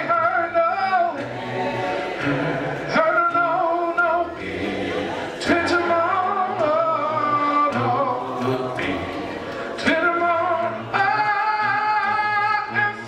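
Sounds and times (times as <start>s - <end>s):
man singing a slow hymn: 0.0s - 13.0s.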